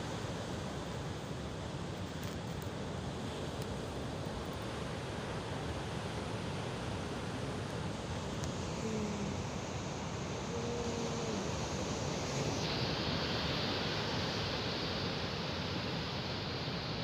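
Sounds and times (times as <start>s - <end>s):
rain: 0.0s - 17.0s
sea surf: 0.0s - 17.0s.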